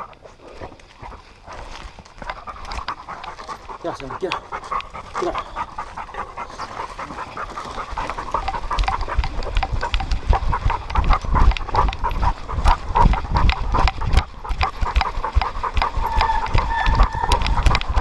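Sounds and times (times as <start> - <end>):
dog panting hard: 0.4 - 18.0.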